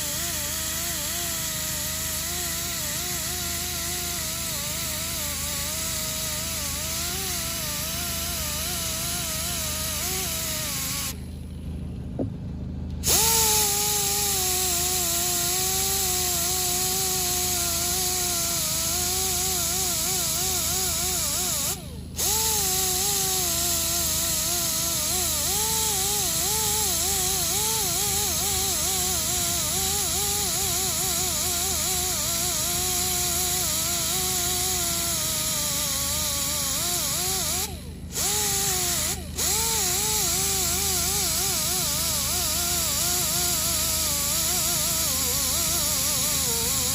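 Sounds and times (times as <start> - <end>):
rotary tool grinding metal: 0.0 - 11.3, 13.0 - 46.9.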